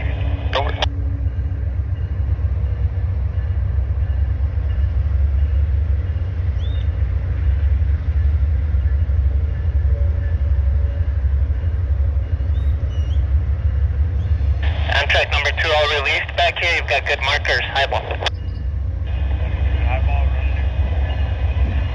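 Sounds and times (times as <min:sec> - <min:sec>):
diesel locomotive idling: 0:00.0 - 0:21.9.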